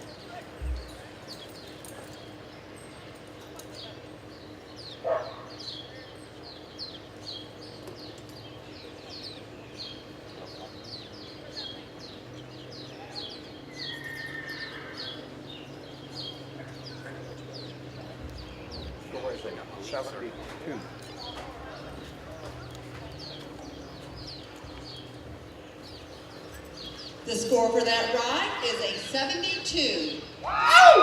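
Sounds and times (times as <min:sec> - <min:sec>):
small birds chirping: 0:00.0 - 0:30.5.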